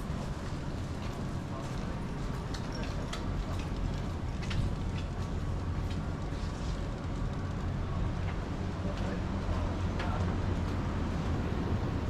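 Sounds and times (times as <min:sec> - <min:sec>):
low rumble of vehicles: 0:01.9 - 0:12.0.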